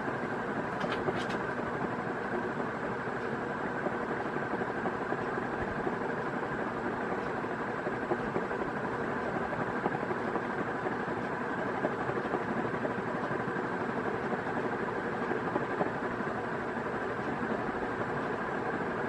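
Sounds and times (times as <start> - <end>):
ceiling fan running: 0.0 - 19.0.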